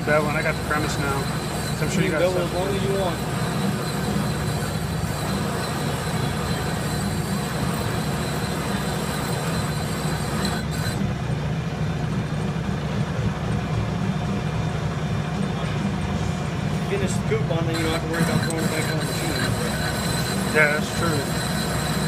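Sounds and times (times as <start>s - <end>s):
metal lathe droning: 0.0s - 11.4s, 15.4s - 22.0s.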